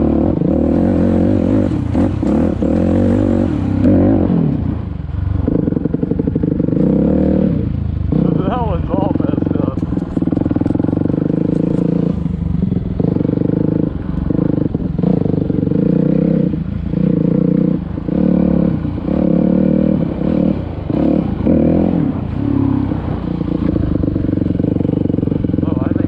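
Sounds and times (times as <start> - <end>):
dirt bike engine revving: 0.0 - 4.8, 5.4 - 26.0.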